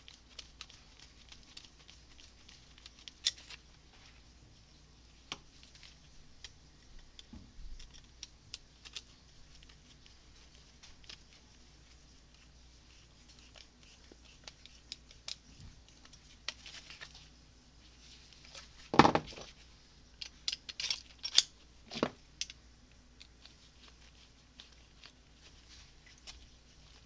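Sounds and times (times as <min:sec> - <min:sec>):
small metal clicks and scrapes: 0:00.0 - 0:03.7, 0:05.3 - 0:17.3, 0:20.2 - 0:27.0.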